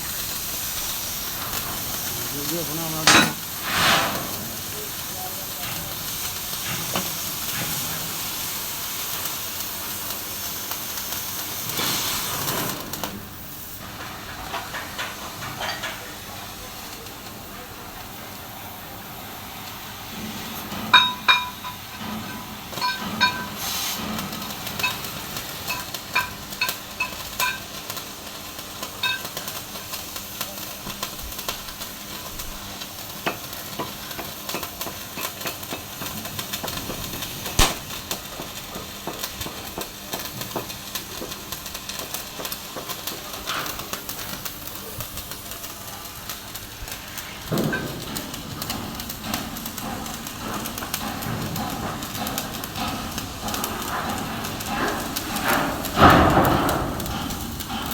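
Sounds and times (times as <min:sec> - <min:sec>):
sharp welding pops: 0:00.0 - 0:17.4, 0:19.7 - 0:57.9
arc welding crackling sizzle: 0:00.0 - 0:57.9.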